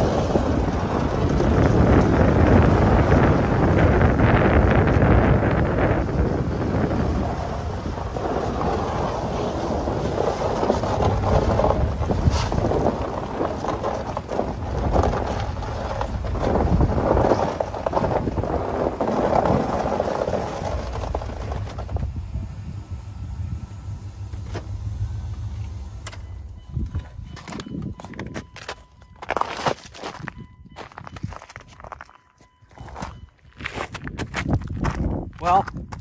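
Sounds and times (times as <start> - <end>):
low steady hum: 0.0 - 29.3
vehicle engine rumble: 0.0 - 36.0
wind buffeting microphone: 0.0 - 36.0.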